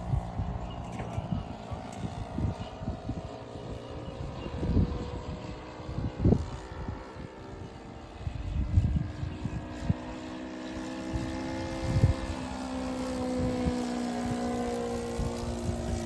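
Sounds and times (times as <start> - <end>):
model plane engine buzzing: 0.0 - 16.0.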